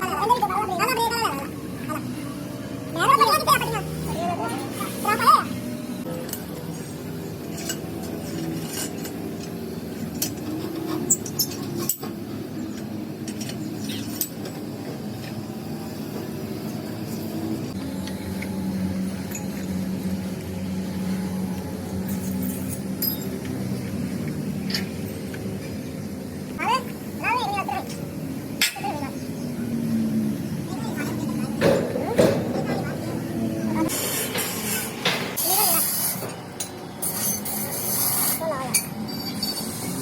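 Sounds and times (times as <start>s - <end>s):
engine running steadily: 0.0s - 37.6s.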